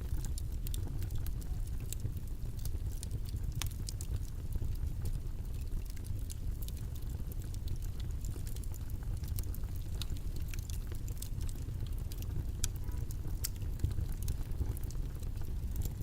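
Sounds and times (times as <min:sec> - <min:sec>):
small irregular clicks and crackles: 0:00.0 - 0:16.0.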